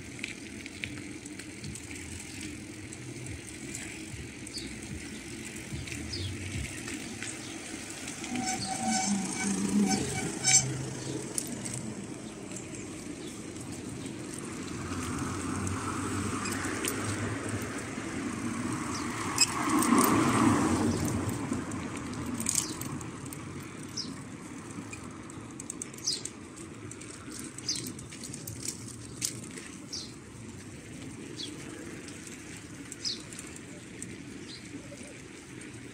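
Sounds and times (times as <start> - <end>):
road traffic rumble and hiss: 0.0 - 35.9.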